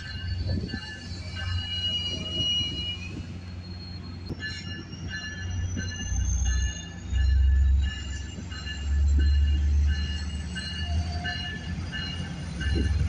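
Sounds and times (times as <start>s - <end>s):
high brake squeal: 0.0s - 13.0s
locomotive engine rumble: 0.0s - 13.0s.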